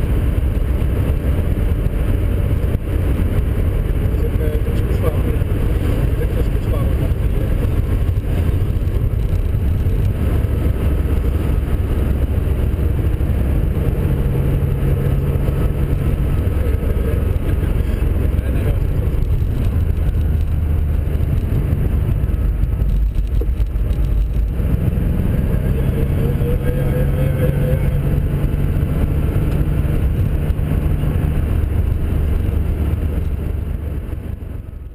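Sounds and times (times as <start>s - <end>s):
racing car engine revving: 1.2s - 33.6s.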